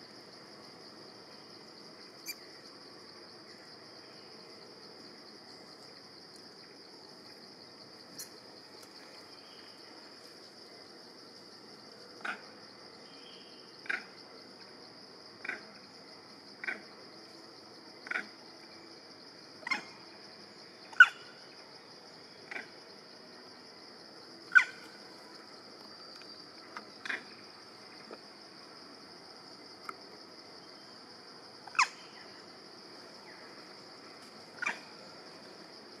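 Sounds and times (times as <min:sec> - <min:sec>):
high insect drone: 0:00.0 - 0:36.0.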